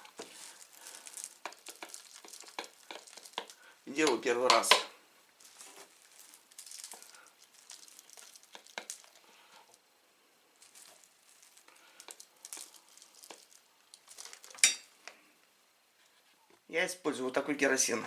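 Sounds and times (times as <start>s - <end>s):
containers and packaging rustling: 0.0s - 9.9s, 10.5s - 15.2s.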